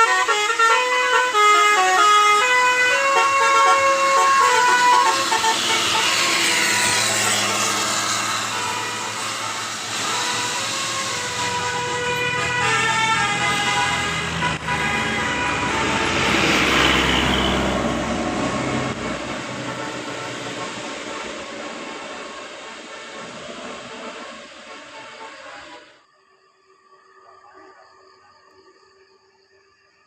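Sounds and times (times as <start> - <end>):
engine and traffic noise: 0.0 - 26.0
multi-tone musical horn: 0.0 - 26.0.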